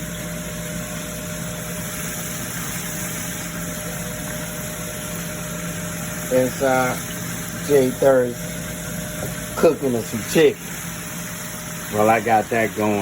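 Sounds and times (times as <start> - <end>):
kitchen appliance motor hum: 0.0 - 13.0.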